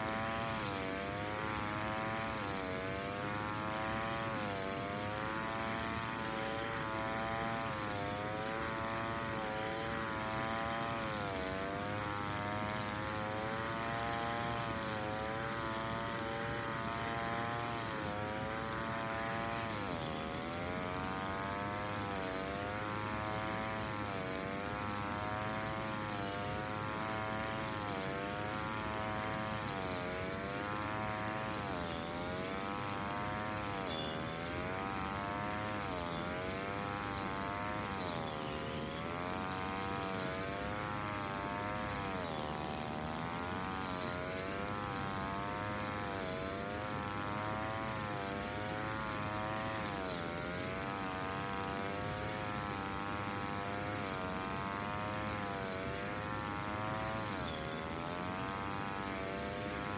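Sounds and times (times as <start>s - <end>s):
brush cutter engine revving: 0.0s - 59.9s.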